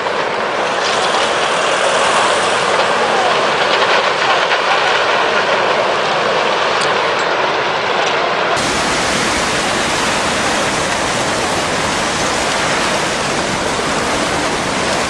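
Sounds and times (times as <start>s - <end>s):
floodwater rushing: 0.0s - 7.7s, 8.6s - 15.0s.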